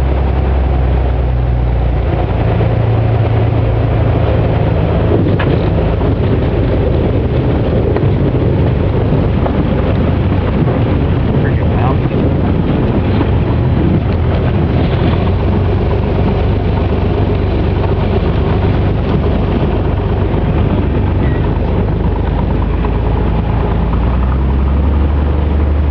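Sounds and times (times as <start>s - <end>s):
plane engine and propeller droning: 0.0s - 25.9s
wheels on rough gravel: 0.0s - 25.9s.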